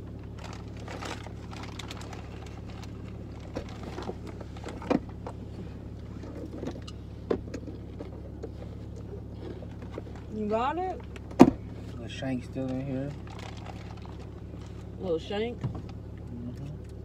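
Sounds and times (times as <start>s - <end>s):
low car interior hum: 0.0s - 17.0s.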